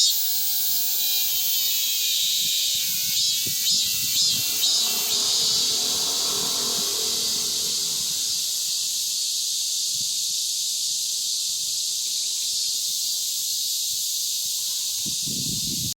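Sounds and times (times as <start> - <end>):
cicada buzzing: 0.0 - 15.9.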